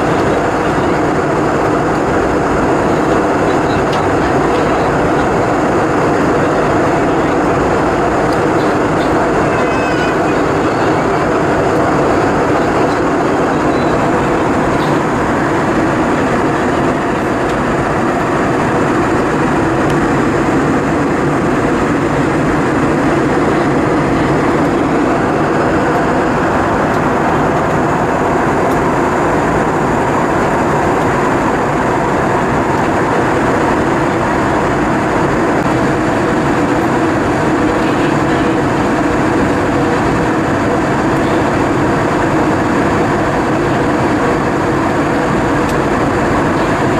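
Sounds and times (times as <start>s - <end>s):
airliner cabin noise: 0.0s - 46.9s.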